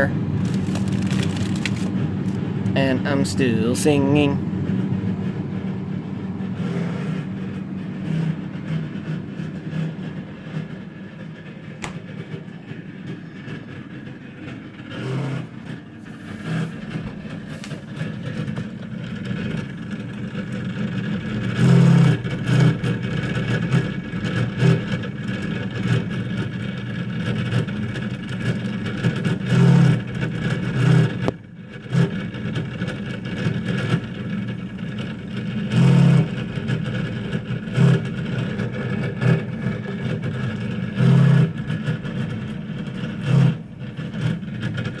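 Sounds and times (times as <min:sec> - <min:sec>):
refrigerator fan running loud: 0:00.0 - 0:45.0.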